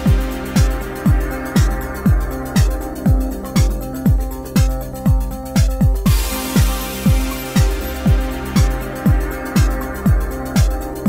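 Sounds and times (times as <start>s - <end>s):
music with kick-drum beat: 0.0s - 11.0s.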